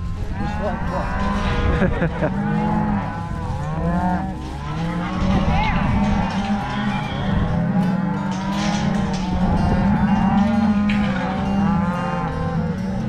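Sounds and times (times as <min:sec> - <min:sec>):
cattle mooing: 0:00.0 - 0:13.0.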